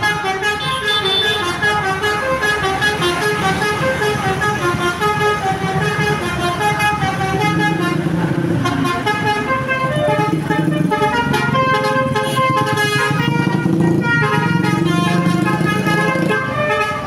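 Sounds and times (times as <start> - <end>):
bus horn playing a tune: 0.0 - 17.0.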